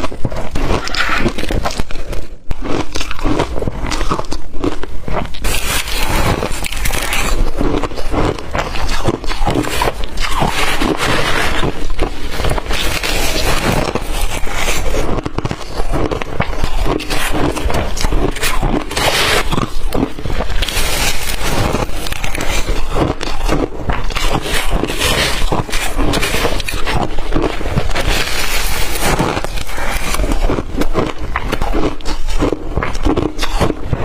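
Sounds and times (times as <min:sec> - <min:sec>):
crushed ice being chewed: 0:00.0 - 0:34.0.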